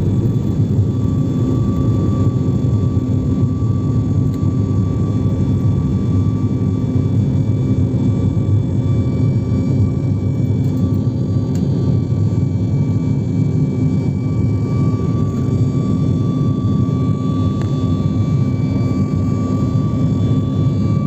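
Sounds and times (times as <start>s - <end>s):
jet engines rumbling: 0.0s - 21.0s
thin steady whine: 0.0s - 21.0s.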